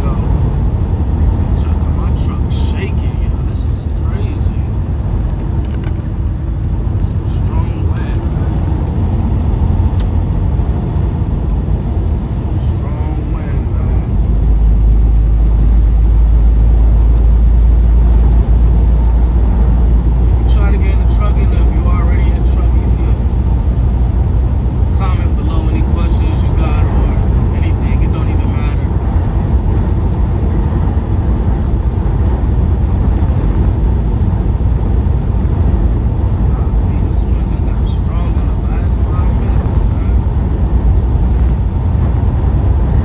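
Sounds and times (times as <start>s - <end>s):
road noise: 0.0s - 43.0s
truck engine drone: 0.0s - 43.0s.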